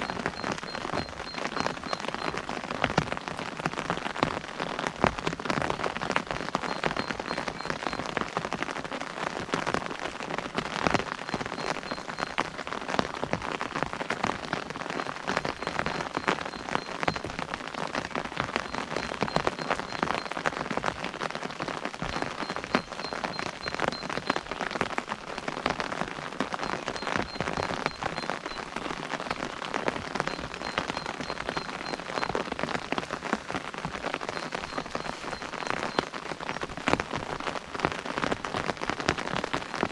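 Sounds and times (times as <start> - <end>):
rain pattering on umbrella: 0.0 - 39.9.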